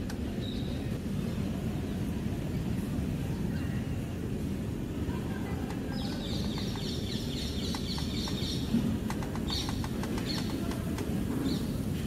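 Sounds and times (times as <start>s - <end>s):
birds chirping: 0.0s - 4.1s, 5.2s - 12.0s.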